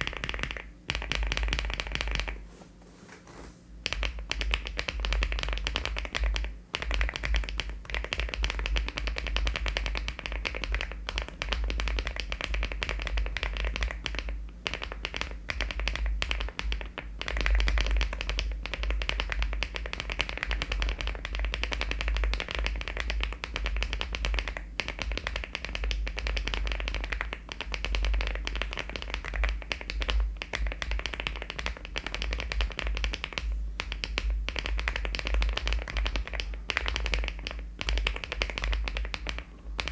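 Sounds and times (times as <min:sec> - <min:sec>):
fast mechanical keyboard typing: 0:00.0 - 0:02.4, 0:03.8 - 0:39.9.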